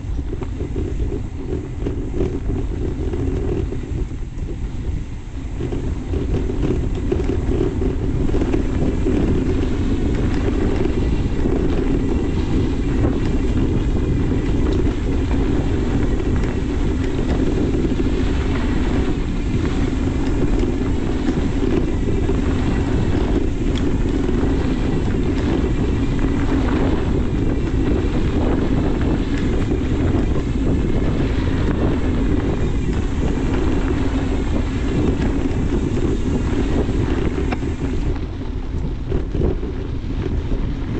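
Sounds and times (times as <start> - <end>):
bike tyre rumble on dirt: 0.0 - 40.9
wind buffeting microphone: 0.0 - 40.9.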